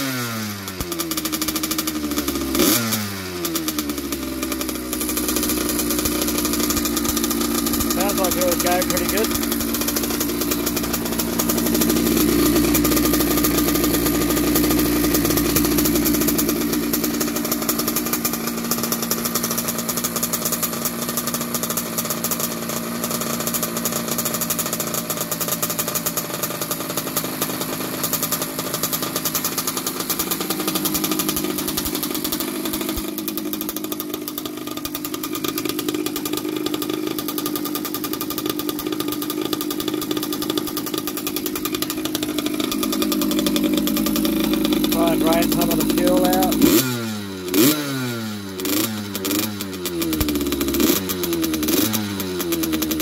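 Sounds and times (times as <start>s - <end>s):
two-stroke engine idling: 0.0s - 53.0s.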